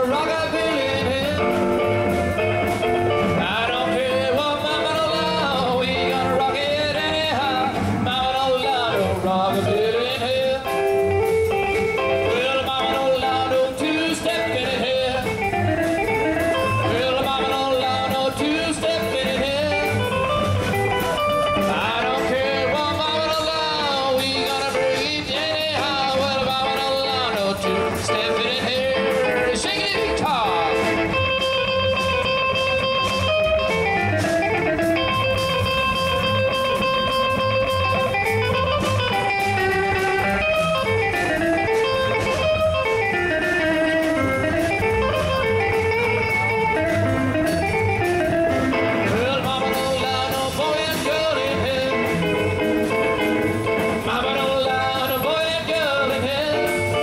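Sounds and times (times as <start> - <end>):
electric guitar bending notes: 0.0 - 57.0
rock band playing: 0.0 - 57.0.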